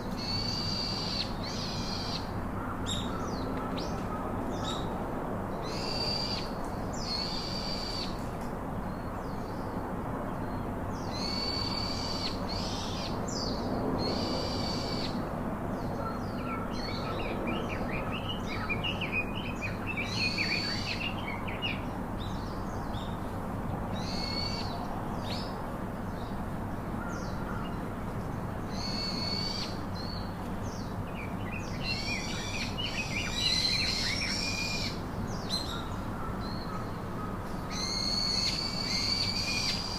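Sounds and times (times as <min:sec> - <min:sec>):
small birds twittering: 0:05.6 - 0:39.9.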